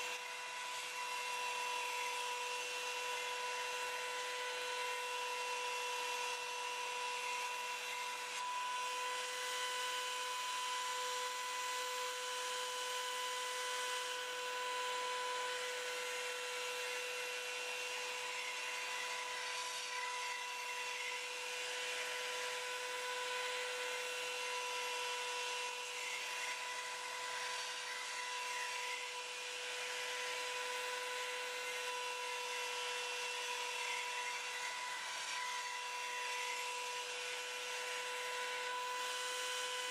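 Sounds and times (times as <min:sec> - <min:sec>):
belt sander whining: 0:00.0 - 0:39.9.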